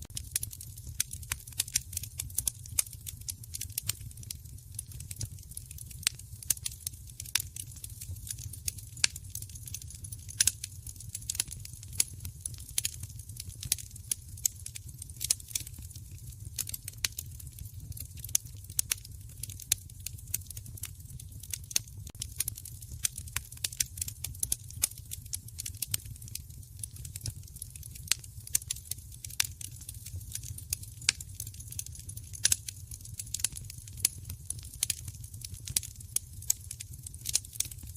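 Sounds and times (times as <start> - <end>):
wood fire crackling and popping: 0.0 - 37.9.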